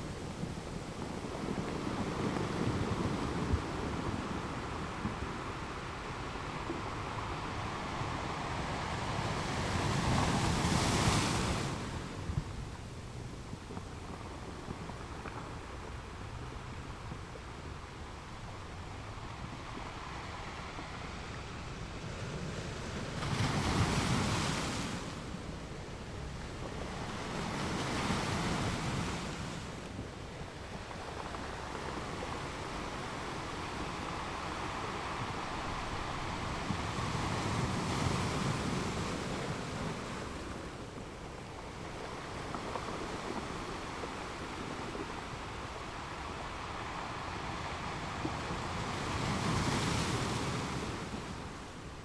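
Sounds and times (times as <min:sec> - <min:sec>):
ocean surf washing onto shore: 0:00.0 - 0:52.0.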